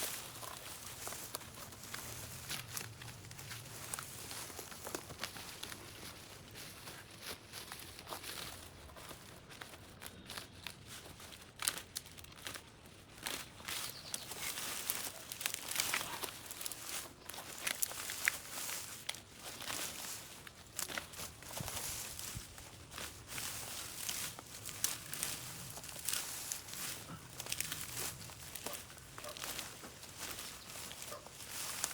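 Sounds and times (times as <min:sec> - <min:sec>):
dry vegetation rustling and snapping: 0:00.0 - 0:31.9.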